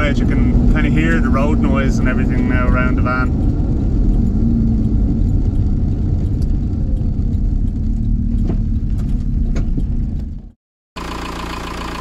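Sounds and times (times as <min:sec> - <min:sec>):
diesel engine drone: 0:00.0 - 0:12.0
road and tyre noise: 0:00.0 - 0:12.0.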